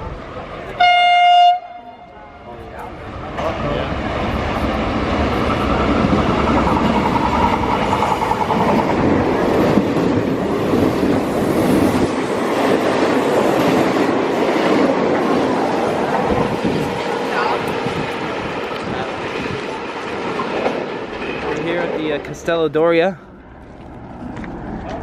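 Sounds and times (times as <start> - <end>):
train whine: 0.0 - 25.0
train wheels rumbling on rails: 2.6 - 25.0.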